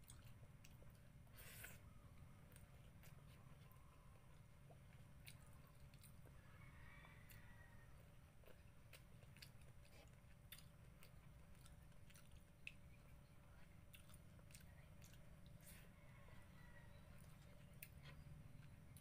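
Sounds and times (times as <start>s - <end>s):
person chewing: 0.0s - 16.0s, 17.0s - 19.0s
low steady hum: 0.0s - 19.0s.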